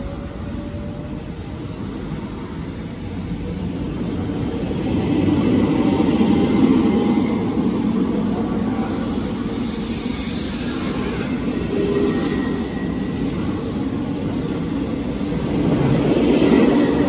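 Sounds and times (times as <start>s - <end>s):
train wheels rumbling past: 0.0s - 17.0s.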